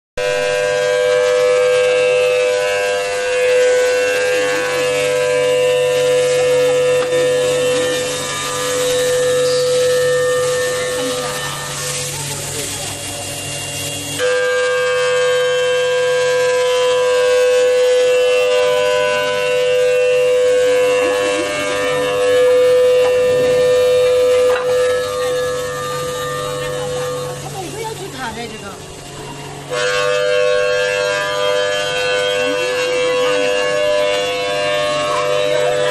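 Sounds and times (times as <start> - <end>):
steady machine whine: 0.2 - 35.9.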